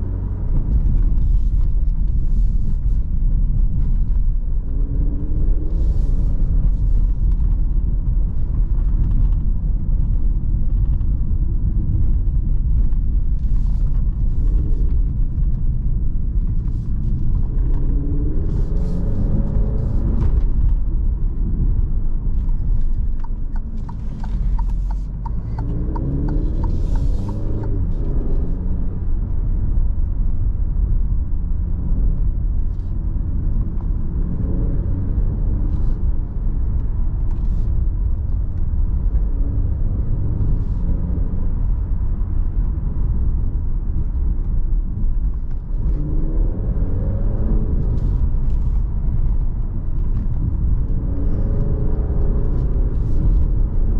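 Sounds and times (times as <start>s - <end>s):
car engine accelerating: 0.0s - 53.9s
road noise: 0.0s - 53.9s.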